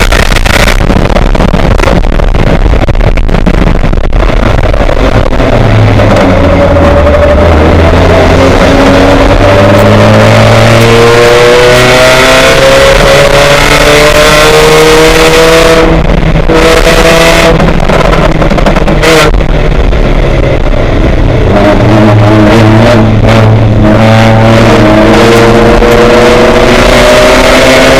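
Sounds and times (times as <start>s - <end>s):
race car engine shifting gears: 0.0s - 27.9s.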